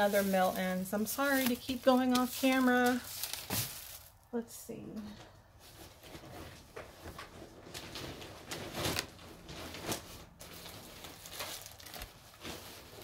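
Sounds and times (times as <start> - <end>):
bags rustling: 0.0 - 4.3, 5.6 - 13.0.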